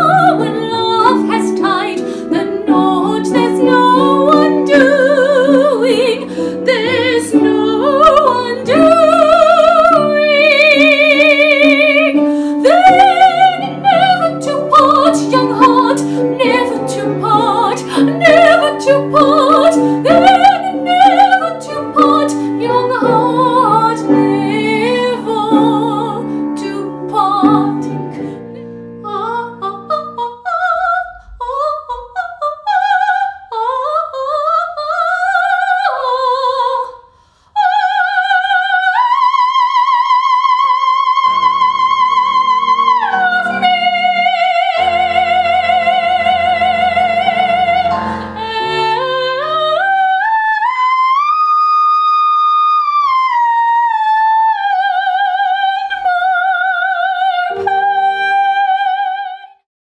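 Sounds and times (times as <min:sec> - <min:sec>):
piano accompaniment: 0:00.0 - 0:36.8, 0:38.2 - 0:51.5, 0:52.9 - 0:59.6
woman singing opera: 0:00.0 - 0:59.6.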